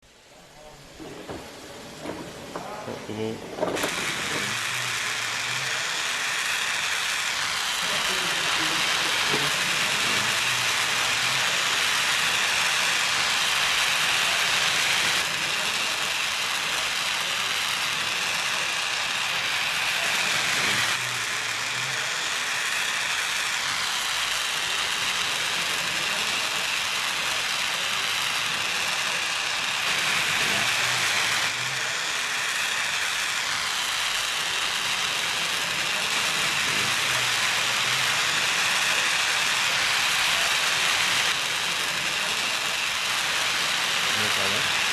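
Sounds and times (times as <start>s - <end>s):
torch flame hissing: 0.0s - 44.9s.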